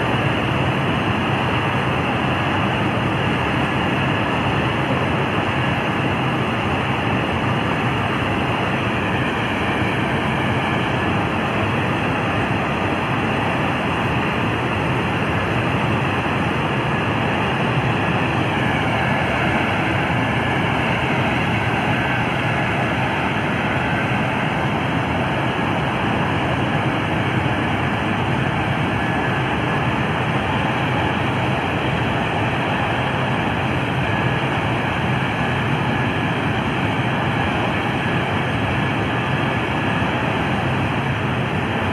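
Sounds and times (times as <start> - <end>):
loud engine drone: 0.0 - 41.9
faint whines: 0.1 - 41.9.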